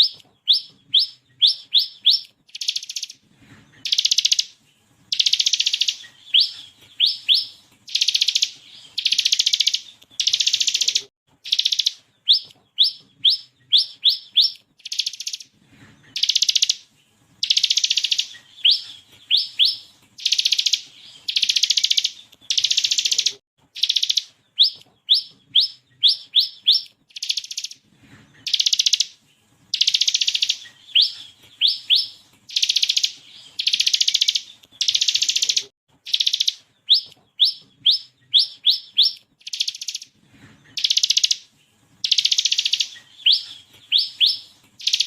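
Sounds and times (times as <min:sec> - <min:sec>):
bird singing trills and whistles: 0:00.0 - 0:27.8, 0:28.4 - 0:45.0.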